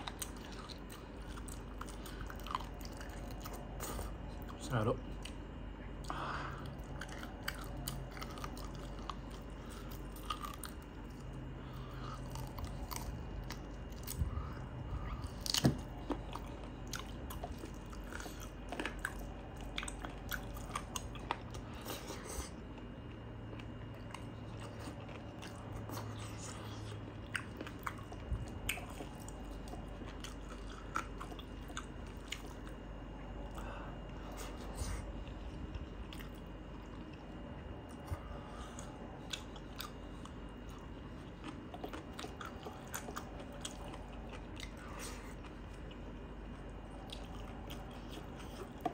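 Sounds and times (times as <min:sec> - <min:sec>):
close-up chewing: 0:00.0 - 0:48.9.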